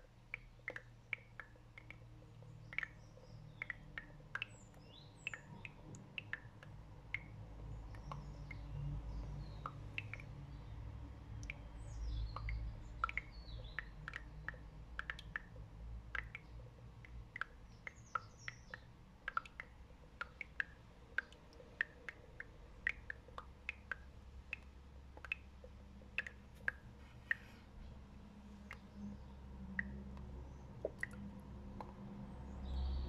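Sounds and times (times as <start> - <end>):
wet clicks and pops in water: 0.0 - 27.5, 28.5 - 32.0.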